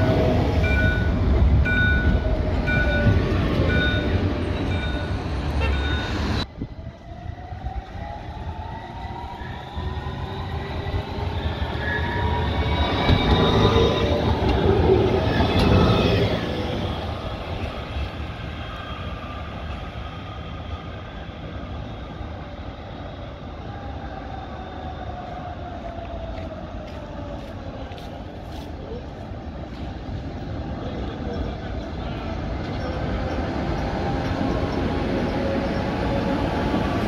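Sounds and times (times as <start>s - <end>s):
tram wheels rumbling on rails: 0.0s - 37.0s.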